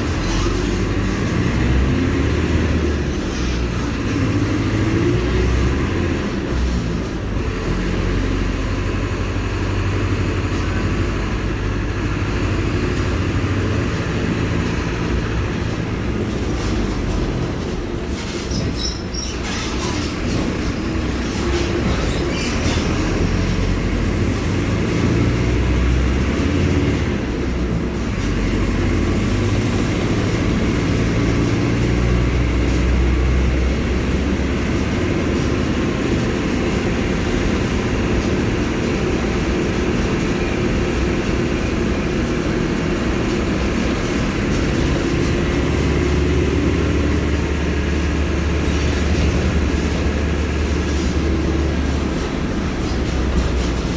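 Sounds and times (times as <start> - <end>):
diesel bus engine rumbling: 0.0 - 53.9.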